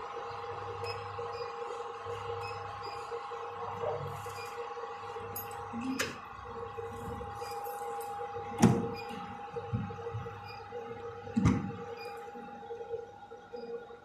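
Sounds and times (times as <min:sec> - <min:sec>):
two-tone electronic hum: 0:00.0 - 0:14.0.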